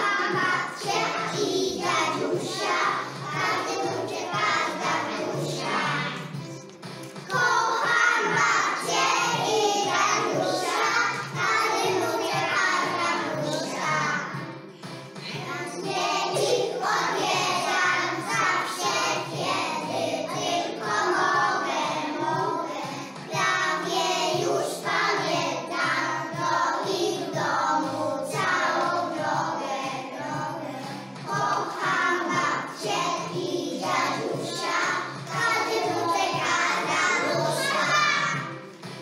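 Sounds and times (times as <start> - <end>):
children singing together: 0.0 - 39.0.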